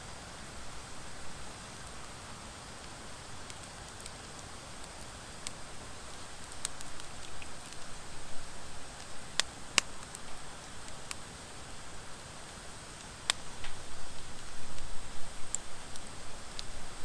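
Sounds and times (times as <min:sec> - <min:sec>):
wood fire crackling and popping: 0:01.7 - 0:17.0.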